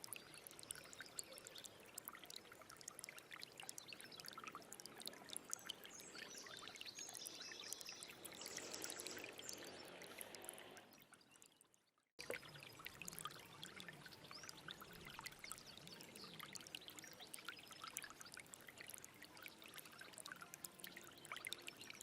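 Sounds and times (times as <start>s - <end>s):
stream water trickling: 0.0s - 22.0s
water drips and splashes: 0.0s - 22.0s.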